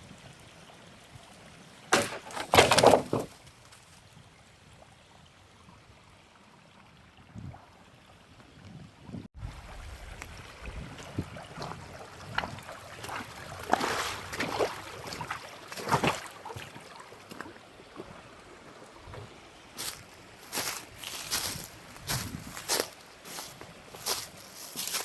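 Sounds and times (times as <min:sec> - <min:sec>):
water trickling and splashing: 0:03.1 - 0:25.0.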